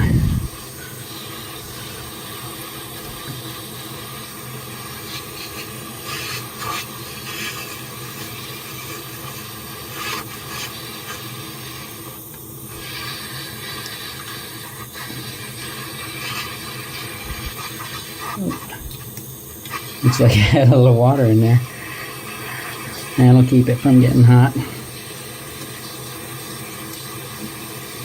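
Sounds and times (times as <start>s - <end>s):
flame sputters: 0.0s - 28.0s
torch flame hissing: 0.0s - 28.0s.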